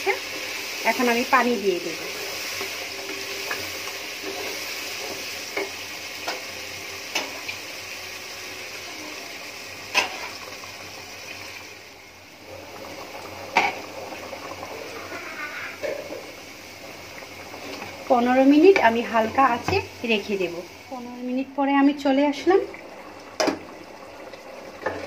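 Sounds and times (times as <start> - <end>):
meat sizzling in a pot: 0.0 - 25.0
water bubbling in a pot: 0.0 - 25.0.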